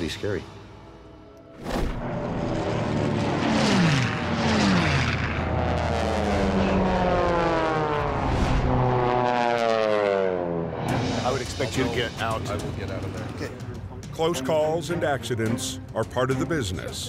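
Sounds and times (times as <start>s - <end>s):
propeller planes flying past: 2.0s - 17.0s.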